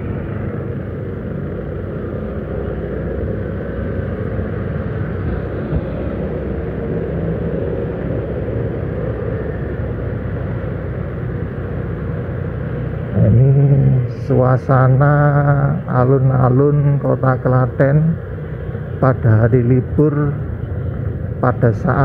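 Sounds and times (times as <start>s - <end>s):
light traffic: 0.0s - 22.0s
vehicle engine and road rumble: 0.0s - 22.0s.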